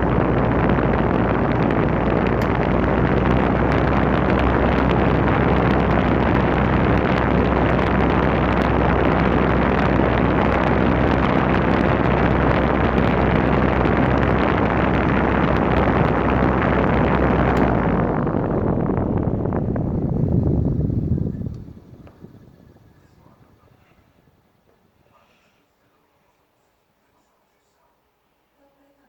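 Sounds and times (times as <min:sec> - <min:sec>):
wind buffeting microphone: 0:00.0 - 0:24.6
electric fan running: 0:00.0 - 0:25.4.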